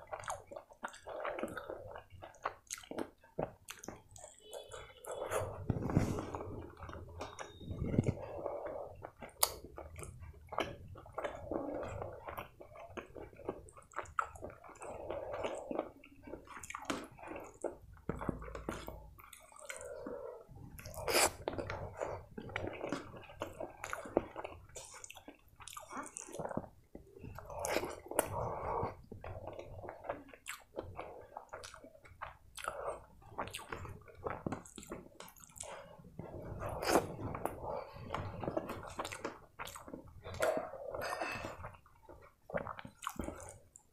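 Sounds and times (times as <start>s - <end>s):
person chewing: 0.0s - 43.9s.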